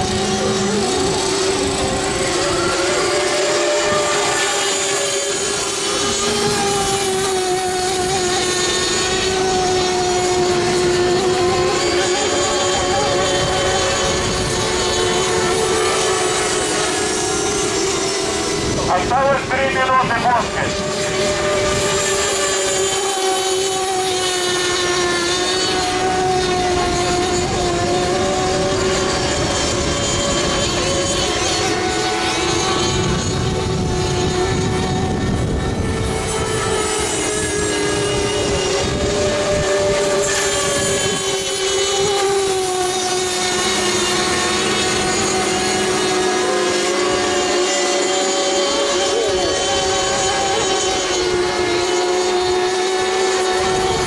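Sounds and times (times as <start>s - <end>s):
model boat engines whining: 0.0s - 54.0s.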